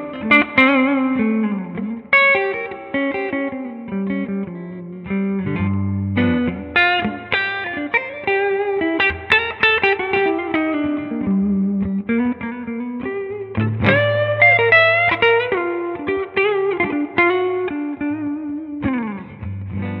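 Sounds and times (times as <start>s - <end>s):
electric guitar chord ringing: 0.0s - 20.0s
electric guitar lead notes: 0.0s - 20.0s.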